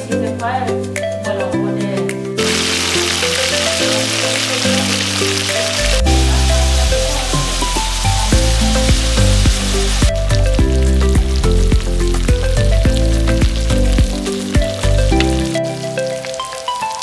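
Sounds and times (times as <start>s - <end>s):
background music with steady beat: 0.0s - 17.0s
food sizzling in a pan: 2.4s - 17.0s.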